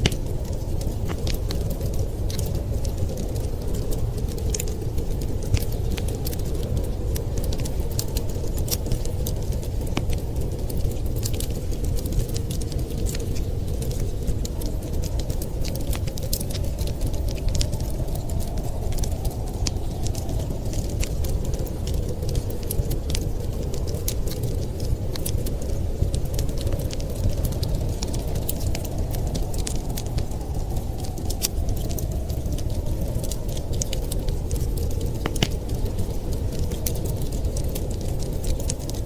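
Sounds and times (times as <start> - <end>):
blizzard wind rushing: 0.0 - 39.0
wood fire crackling: 0.0 - 39.0.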